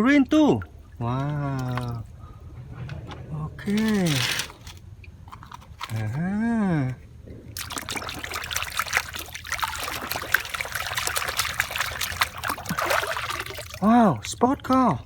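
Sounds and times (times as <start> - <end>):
water trickling and splashing: 0.0 - 5.6, 7.3 - 15.0.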